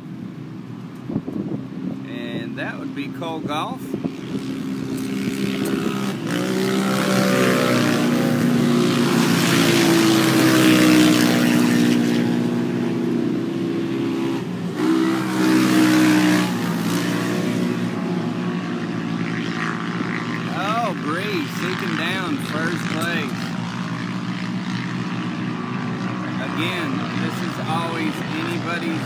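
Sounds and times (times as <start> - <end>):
racing engines accelerating: 0.8 - 29.0.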